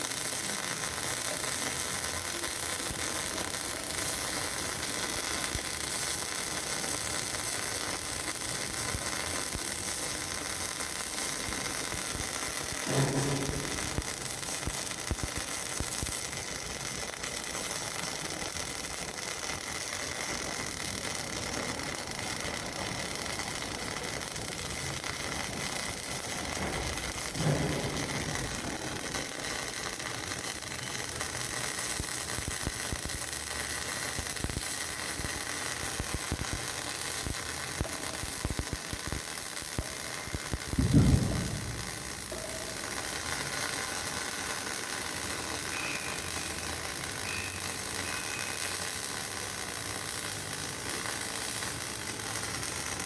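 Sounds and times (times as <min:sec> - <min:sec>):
welding arc crackling and hissing: 0:00.0 - 0:53.0.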